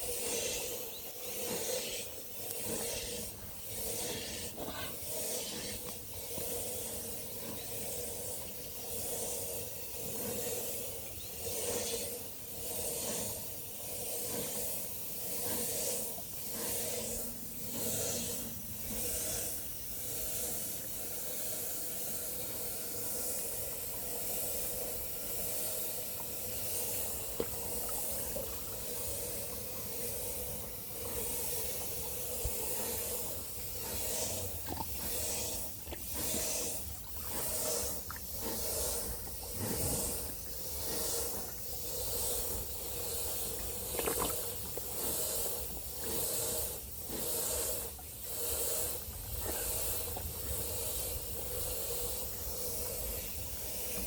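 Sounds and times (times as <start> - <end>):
outdoor hiss: 0.0 - 54.0.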